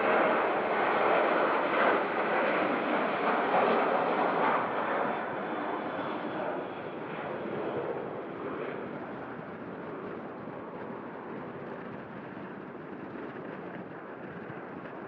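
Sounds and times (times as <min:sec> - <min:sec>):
jet engine rushing: 0:00.0 - 0:14.8.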